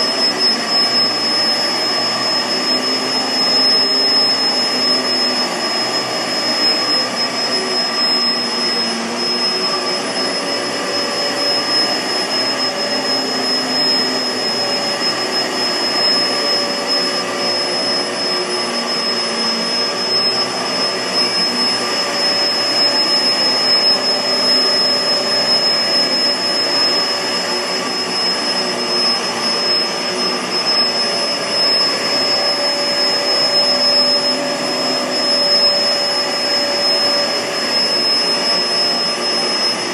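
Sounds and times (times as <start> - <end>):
high-pitched whine: 0.0 - 39.9
vacuum cleaner motor and airflow: 0.0 - 39.9.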